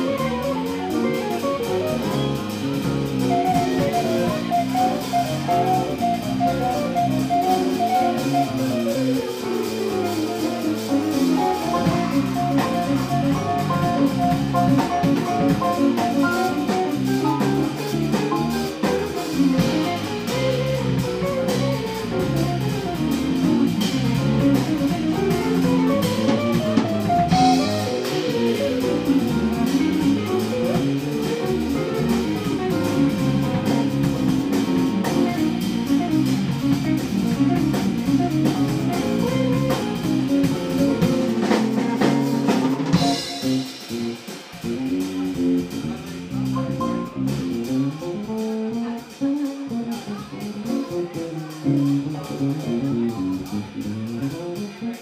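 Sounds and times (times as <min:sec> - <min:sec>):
sliding melody line: 0:00.0 - 0:44.2, 0:46.5 - 0:47.6
drum kit: 0:00.0 - 0:55.0
electric bass: 0:00.0 - 0:55.0
electric guitar: 0:00.0 - 0:55.0
piano: 0:00.0 - 0:55.0.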